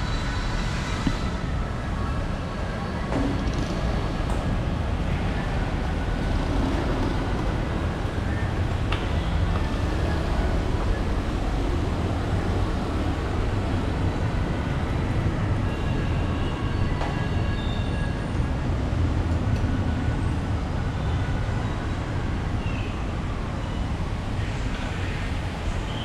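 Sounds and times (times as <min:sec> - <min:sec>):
low rumble of motor vehicles: 0:00.0 - 0:26.0.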